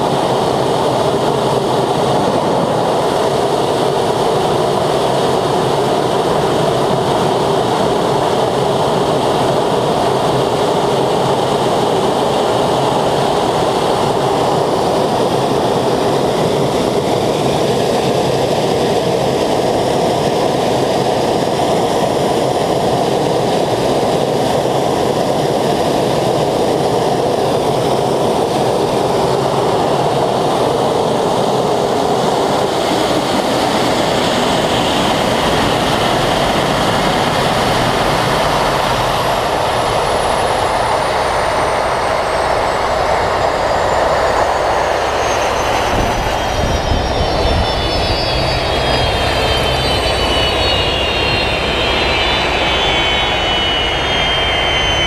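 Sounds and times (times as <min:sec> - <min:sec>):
engine running at full power: 0:00.0 - 0:55.0.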